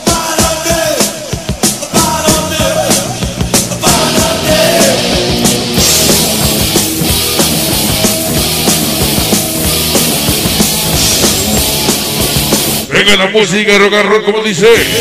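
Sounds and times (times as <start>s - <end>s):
drum kit beat: 0.0s - 12.9s
loud rock music: 0.0s - 15.0s.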